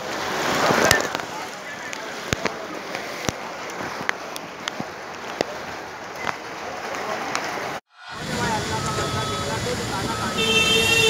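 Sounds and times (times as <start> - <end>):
rain on floodwater: 0.0 - 11.0.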